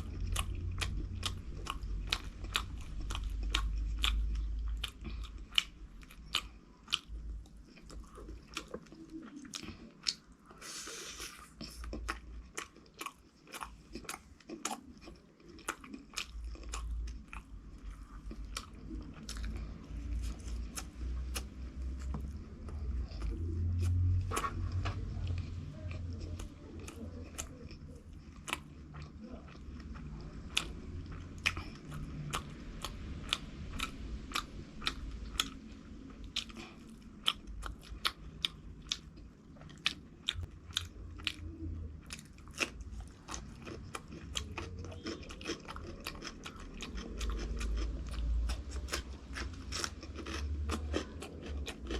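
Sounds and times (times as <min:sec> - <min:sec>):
crunching and chewing fried food: 0:00.0 - 0:51.9.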